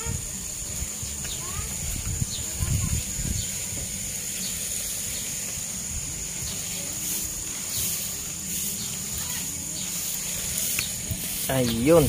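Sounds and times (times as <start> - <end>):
water spraying from hose: 0.0 - 12.0.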